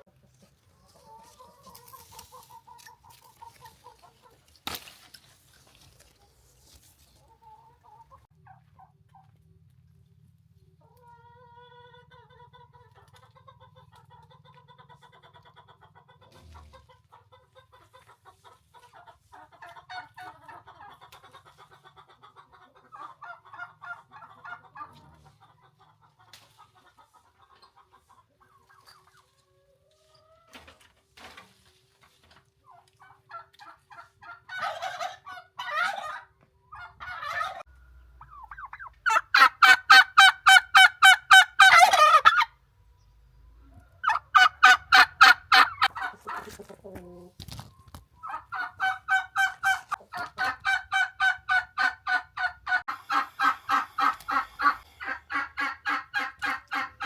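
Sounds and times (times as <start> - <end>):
chickens clucking: 0.0 - 9.5, 10.5 - 57.0.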